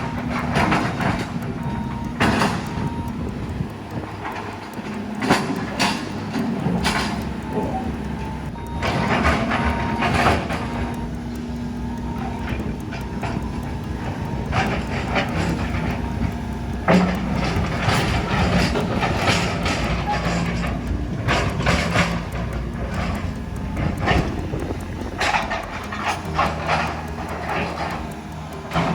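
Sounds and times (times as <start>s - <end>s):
machinery engine drone: 0.0s - 28.9s.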